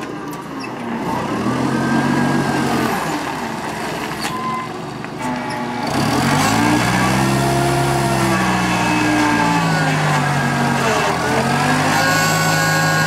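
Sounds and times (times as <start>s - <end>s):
forklift engine revving: 0.0s - 13.0s.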